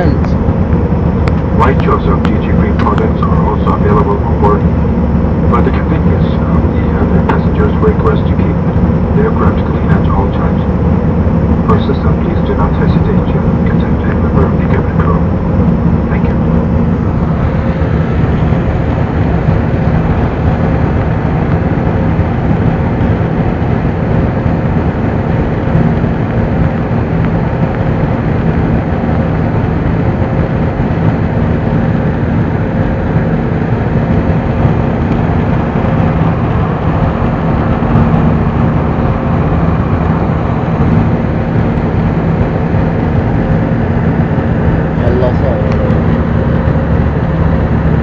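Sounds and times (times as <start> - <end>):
airliner cabin drone: 0.0 - 48.0
low steady hum: 0.0 - 48.0.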